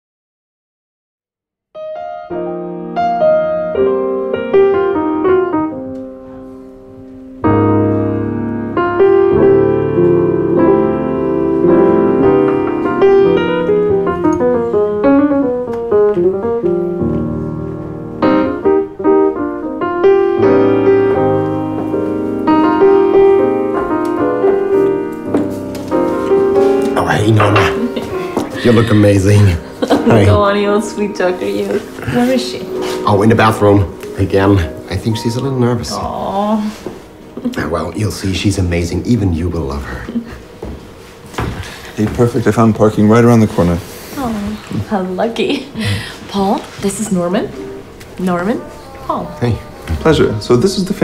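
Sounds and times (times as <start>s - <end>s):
piano music: 1.8s - 51.0s.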